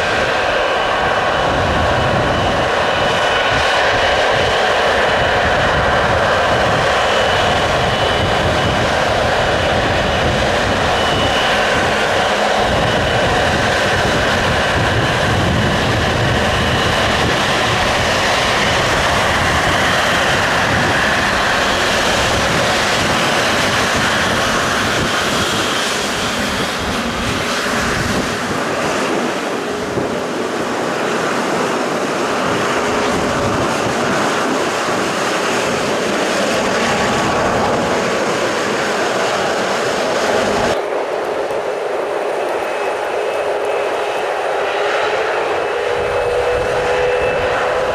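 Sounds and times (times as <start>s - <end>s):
jet engines running: 0.0s - 47.9s.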